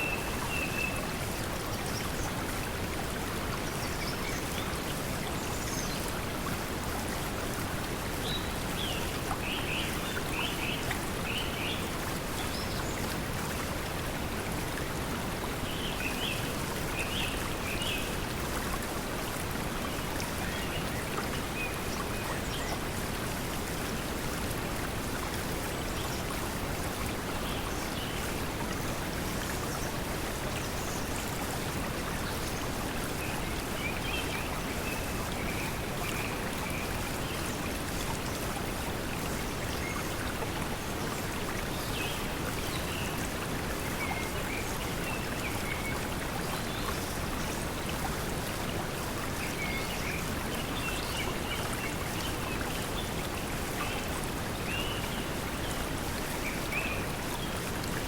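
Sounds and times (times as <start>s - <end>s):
flowing water: 0.0s - 58.0s.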